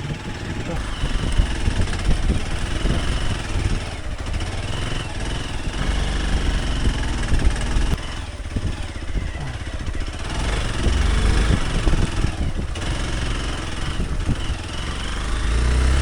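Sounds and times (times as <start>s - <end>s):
microphone rumble: 0.0s - 14.6s
motorcycle engine running: 0.0s - 16.0s.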